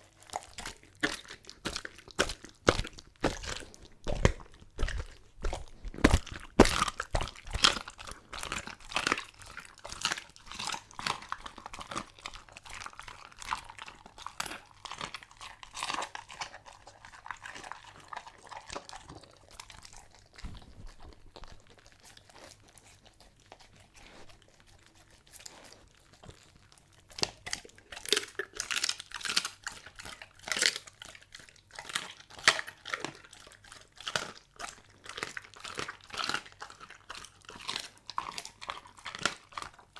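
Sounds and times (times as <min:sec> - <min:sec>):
dog crunching bone: 0:00.0 - 0:39.9
dog wet chewing: 0:00.0 - 0:39.9.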